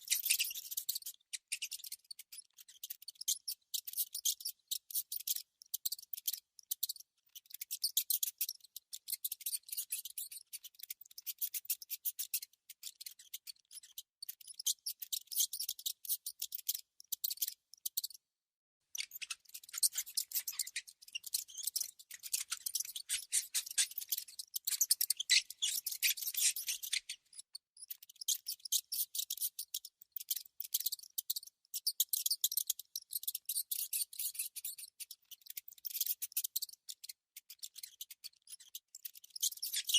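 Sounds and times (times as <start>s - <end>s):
mouse scratching and clicking: 0.1s - 18.2s, 18.9s - 39.9s.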